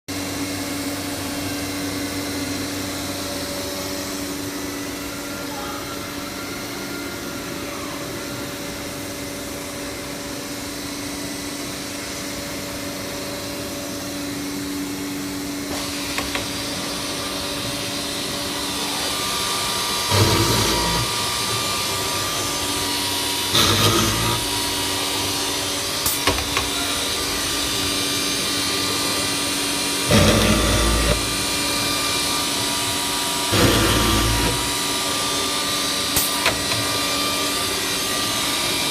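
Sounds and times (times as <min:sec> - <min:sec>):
cnc router hum and whine: 0:00.1 - 0:38.9.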